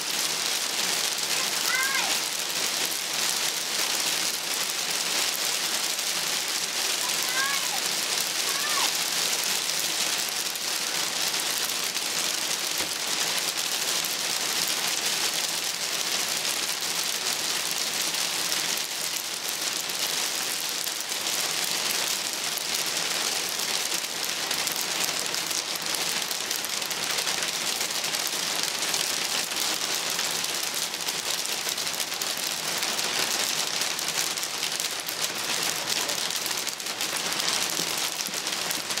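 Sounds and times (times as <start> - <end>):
hail falling on pond: 0.0 - 39.0.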